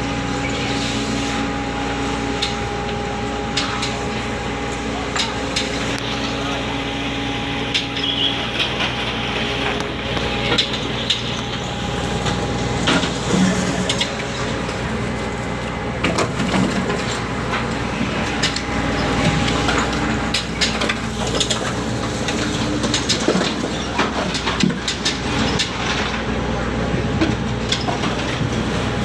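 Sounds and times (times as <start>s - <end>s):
ship machinery droning: 0.0s - 29.0s.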